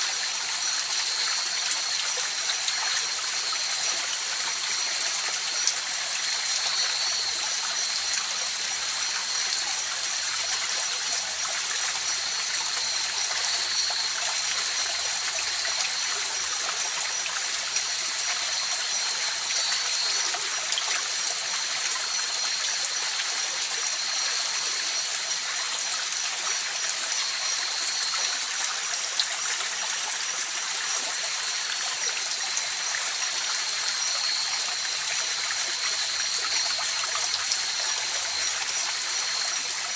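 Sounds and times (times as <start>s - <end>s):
stream rushing and trickling: 0.0s - 39.9s.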